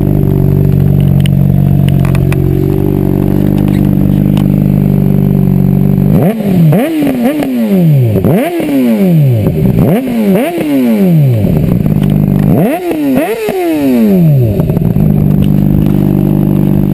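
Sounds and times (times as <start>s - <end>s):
motorcycle engine idling: 0.0s - 16.9s
motorcycle engine revving: 0.0s - 16.9s.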